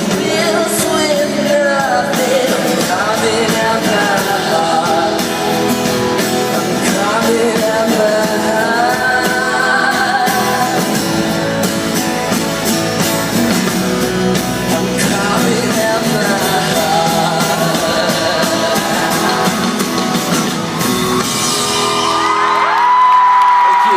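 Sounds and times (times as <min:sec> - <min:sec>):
singer's voice: 0:00.0 - 0:11.5, 0:13.3 - 0:23.9
live rock band playing: 0:00.0 - 0:23.8.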